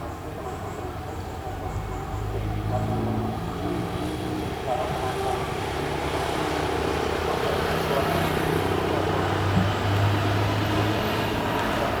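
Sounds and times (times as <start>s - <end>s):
diesel locomotive droning: 0.0s - 12.0s.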